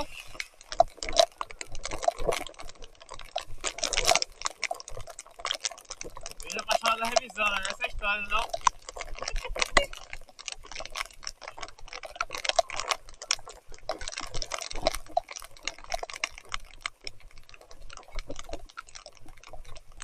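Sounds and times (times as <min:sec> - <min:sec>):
rain and mud spattering on camera: 0:00.0 - 0:20.0.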